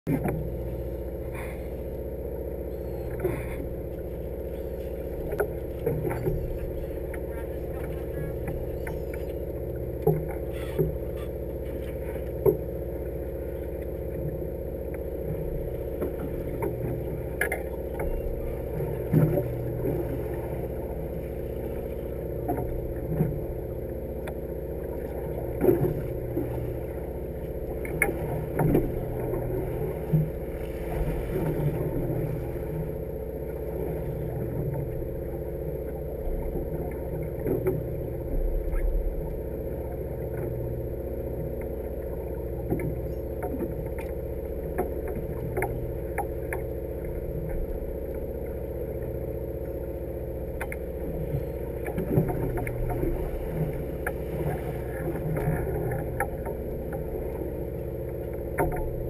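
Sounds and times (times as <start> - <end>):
boat engine humming: 0.1 - 59.0.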